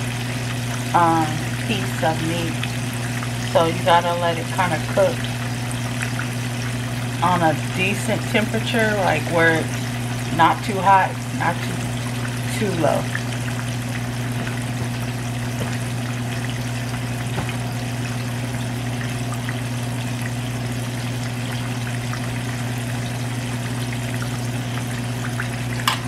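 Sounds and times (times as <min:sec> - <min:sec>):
oil crackling and popping: 0:00.0 - 0:07.2, 0:11.2 - 0:26.0
chicken sizzling in hot oil: 0:00.0 - 0:26.0.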